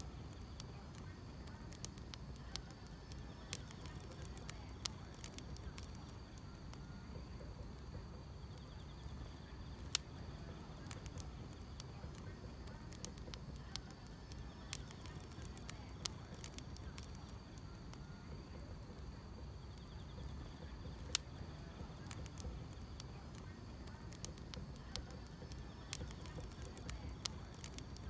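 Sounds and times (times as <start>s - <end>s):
fire crackling and popping: 0.0s - 28.0s
fire rumbling: 0.0s - 28.0s
insects chirping: 0.0s - 28.0s.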